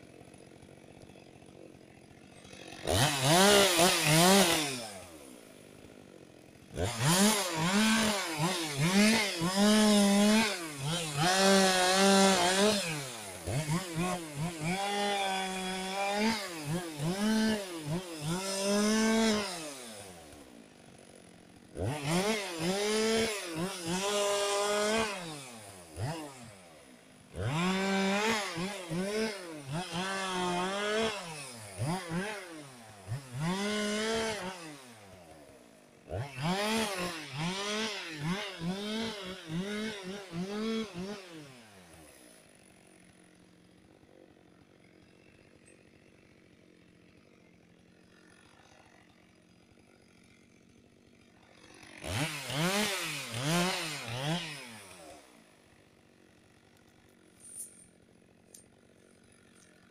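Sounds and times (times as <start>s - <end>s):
chainsaw idling: 0.0s - 59.9s
chainsaw revving: 0.0s - 59.9s.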